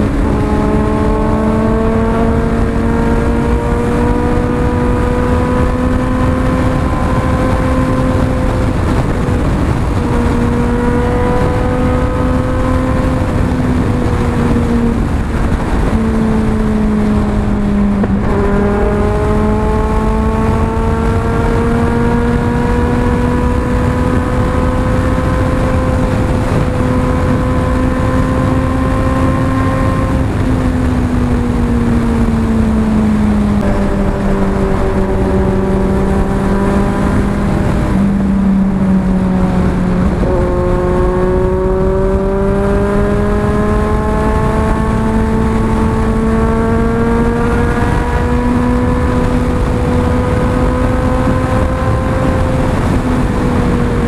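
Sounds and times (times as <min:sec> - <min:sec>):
motorcycle engine pulling hard: 0:00.0 - 0:54.0
wind rush: 0:00.0 - 0:54.0.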